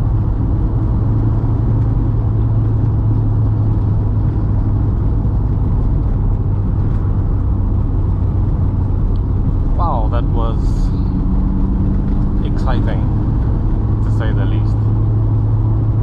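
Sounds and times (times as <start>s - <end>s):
car engine drone: 0.0s - 16.0s
road and tyre rumble: 0.0s - 16.0s.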